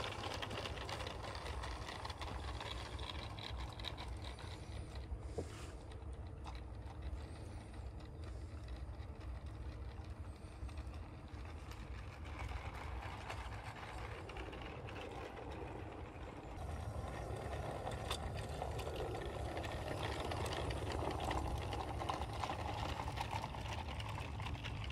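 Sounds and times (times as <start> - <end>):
light clicks and rattles: 0.0 - 24.9
model train running on track: 0.0 - 24.9.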